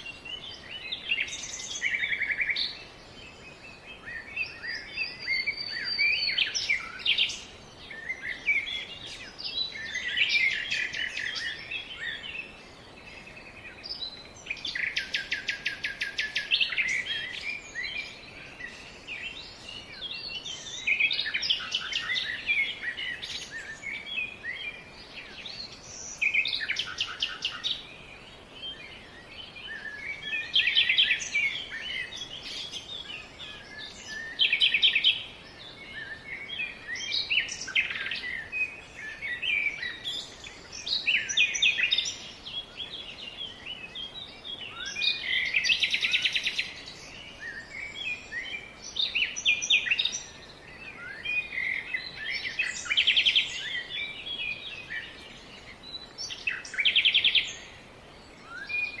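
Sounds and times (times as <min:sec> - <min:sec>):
birds singing and calling: 0:00.0 - 0:59.0
faint steady hiss: 0:00.0 - 0:59.0.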